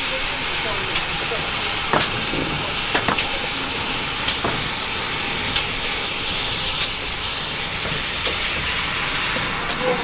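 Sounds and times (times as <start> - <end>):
steam locomotive hissing: 0.0 - 10.0
metal clanks: 0.9 - 9.8.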